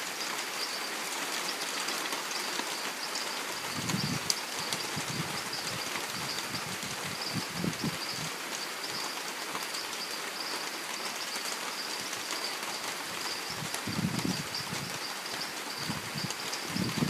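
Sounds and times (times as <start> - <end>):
rain falling on foliage: 0.0 - 17.0.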